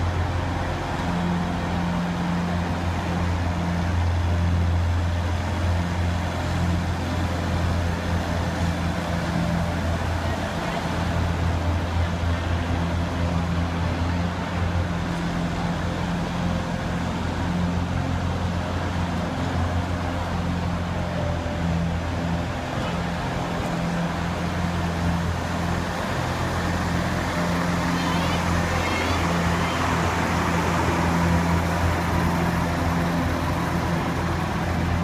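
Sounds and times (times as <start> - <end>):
ice resurfacer humming: 0.0 - 35.0.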